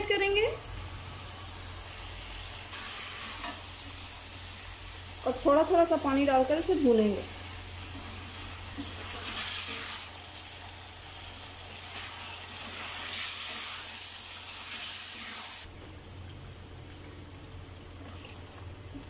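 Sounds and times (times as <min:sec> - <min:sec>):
curry sizzling in a steel pan: 0:00.0 - 0:19.0.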